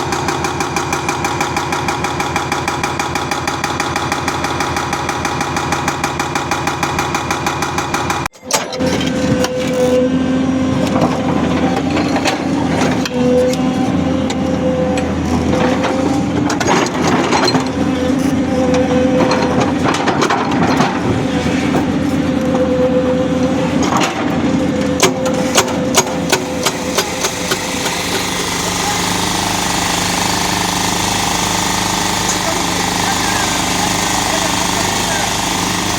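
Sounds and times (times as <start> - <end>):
construction machinery engine droning: 0.0 - 35.9.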